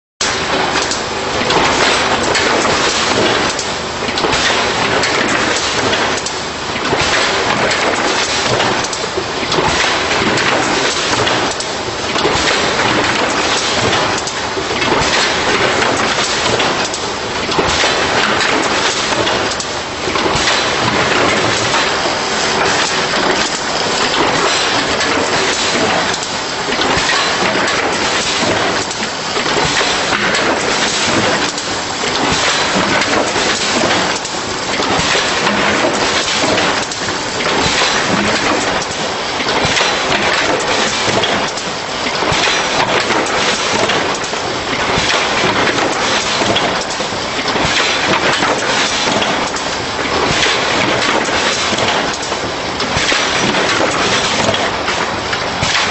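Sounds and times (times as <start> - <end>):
packaging machine clattering: 0.2 - 55.9.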